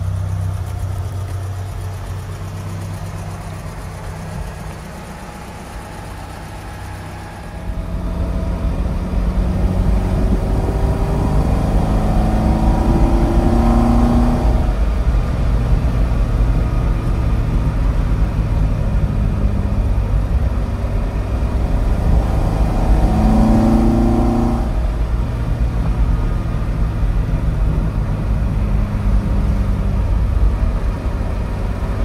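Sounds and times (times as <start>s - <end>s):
car engine rumble inside cabin: 0.0s - 32.0s.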